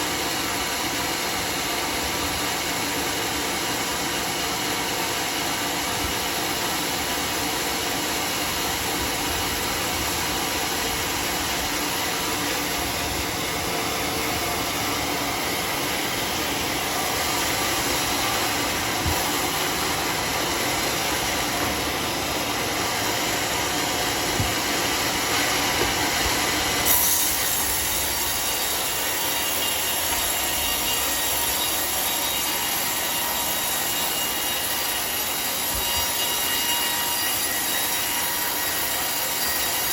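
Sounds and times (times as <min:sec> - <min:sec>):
saw blade cutting log: 0:00.0 - 0:39.9.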